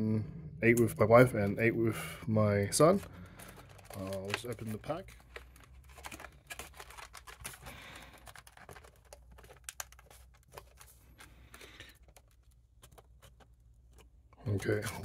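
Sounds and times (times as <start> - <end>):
card stock rustling: 2.8 - 15.0.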